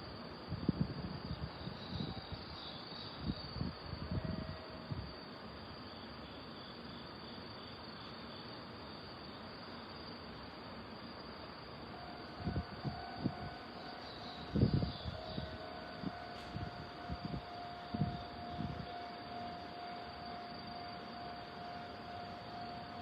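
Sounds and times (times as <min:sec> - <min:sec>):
crickets chirping faintly: 0:00.0 - 0:23.0.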